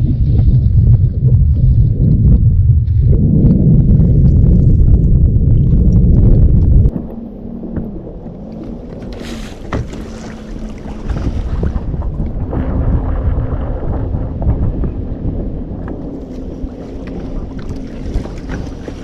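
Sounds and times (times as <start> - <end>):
steady low hum: 0.0 - 19.0
wind buffeting the microphone: 0.0 - 19.0.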